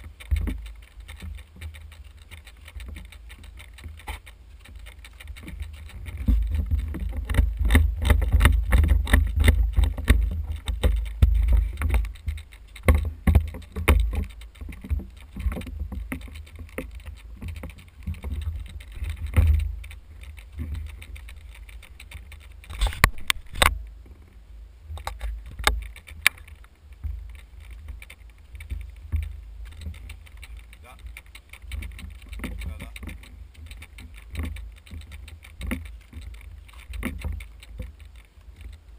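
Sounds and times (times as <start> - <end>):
gear rattling against camera: 0.0 - 38.9.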